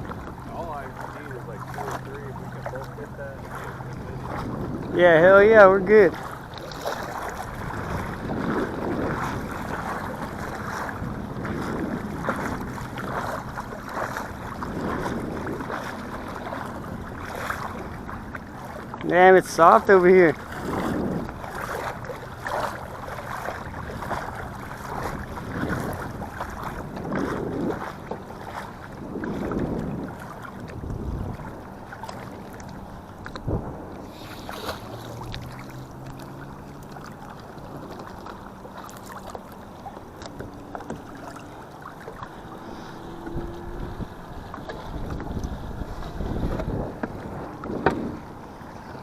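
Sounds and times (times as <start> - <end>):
wind gusting on microphone: 0.0 - 36.6, 40.2 - 49.0
faint motor hum: 0.0 - 49.0.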